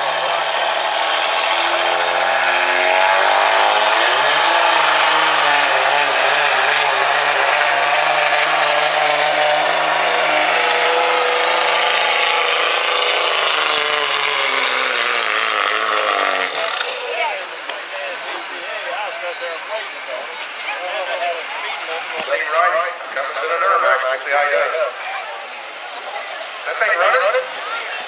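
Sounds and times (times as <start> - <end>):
diesel engine at full throttle: 0.0 - 28.0.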